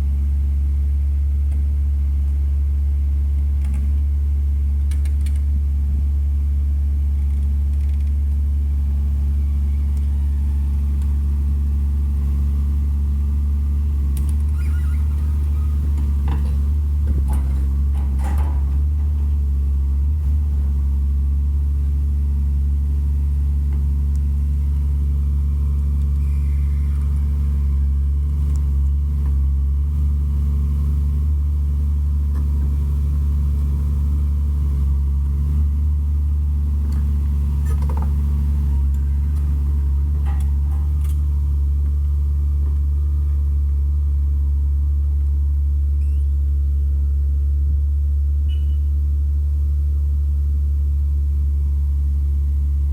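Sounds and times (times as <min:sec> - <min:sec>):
diesel engine droning under load: 0:00.0 - 0:49.7.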